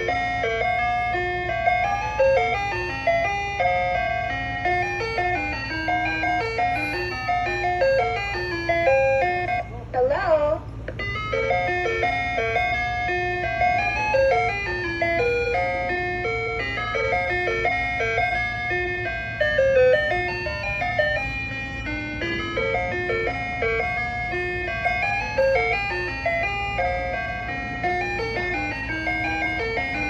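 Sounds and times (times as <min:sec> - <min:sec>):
ice cream truck chime jingle: 0:00.0 - 0:30.0
steady low hum: 0:00.0 - 0:30.0.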